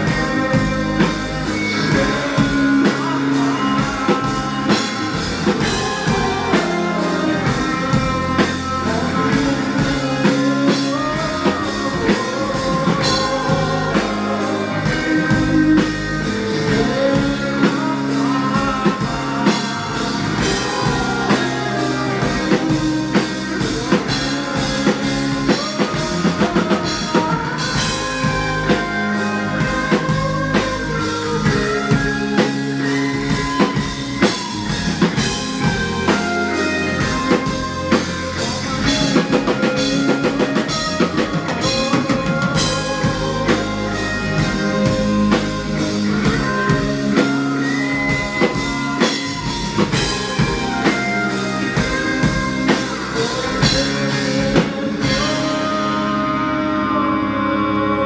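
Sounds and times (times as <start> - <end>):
drum kit: 0.0 - 57.0
electric guitars: 0.0 - 58.0
person singing: 0.0 - 58.0.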